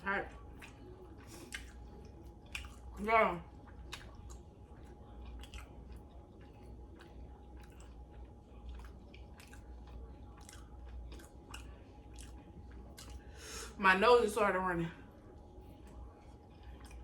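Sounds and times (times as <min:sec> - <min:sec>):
chewing with mouth clicks: 0:00.3 - 0:13.4, 0:15.1 - 0:17.0.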